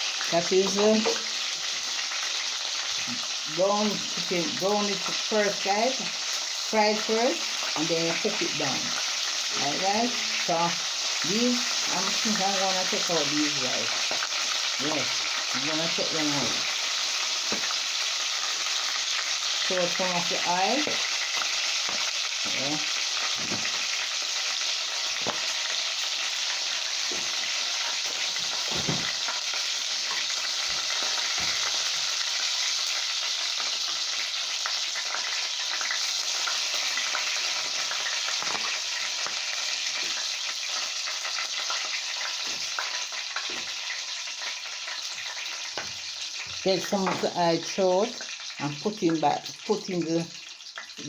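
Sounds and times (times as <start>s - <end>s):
oil sizzling in a pot: 0.0s - 51.0s.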